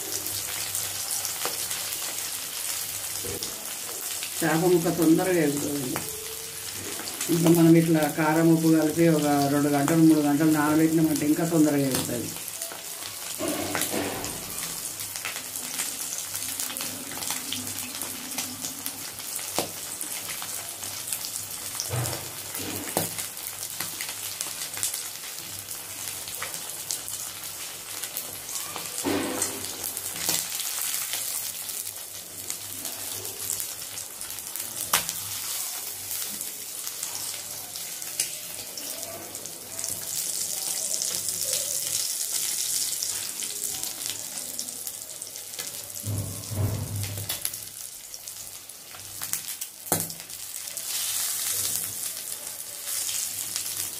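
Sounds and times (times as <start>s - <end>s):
fish sizzling in hot oil: 0.0s - 53.9s
oil crackling and popping: 0.0s - 53.9s.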